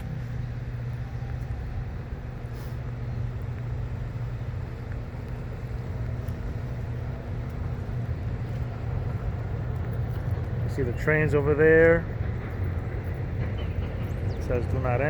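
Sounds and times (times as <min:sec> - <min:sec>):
faint steady hum: 0:00.0 - 0:15.0
road traffic rumble: 0:00.0 - 0:15.0.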